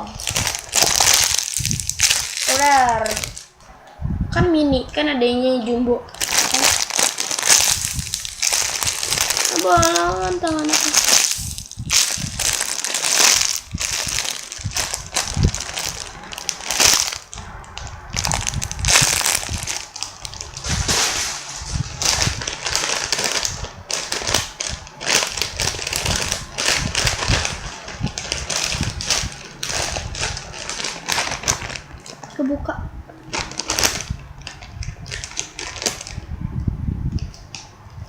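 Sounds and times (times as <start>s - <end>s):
plastic bag crinkling: 0.0s - 3.6s, 6.2s - 32.4s, 33.2s - 36.2s.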